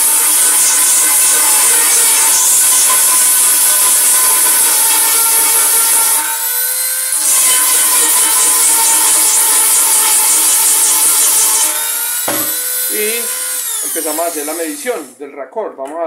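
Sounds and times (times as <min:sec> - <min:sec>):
rotary tool grinding metal: 0:00.0 - 0:15.1.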